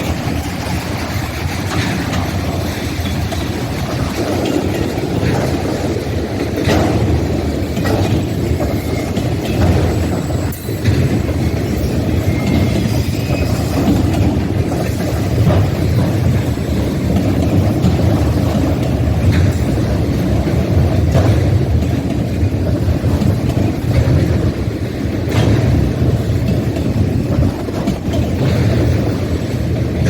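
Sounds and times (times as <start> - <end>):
freight train rumbling past: 0.0 - 30.0.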